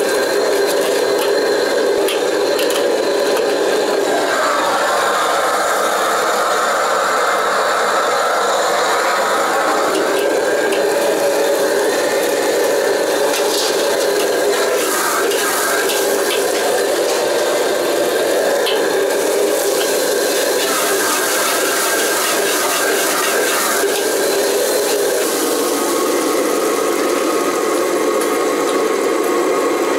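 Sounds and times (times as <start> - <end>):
food sizzling in wok: 0.0 - 29.9.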